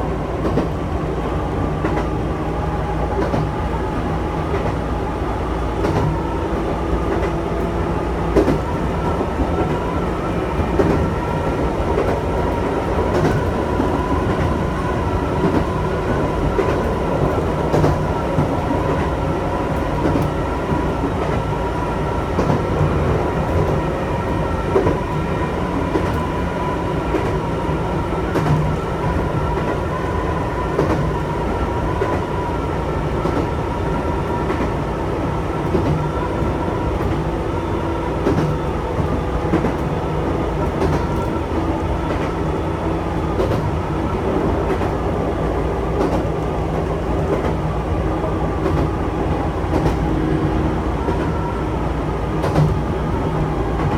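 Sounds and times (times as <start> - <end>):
electric train rumble and whine: 0.0 - 53.9.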